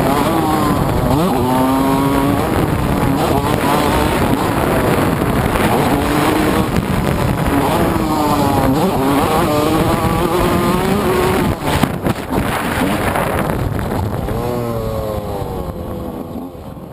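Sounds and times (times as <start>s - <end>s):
motocross engine revving high: 0.0s - 16.9s
wind rushing over microphone: 0.0s - 16.9s.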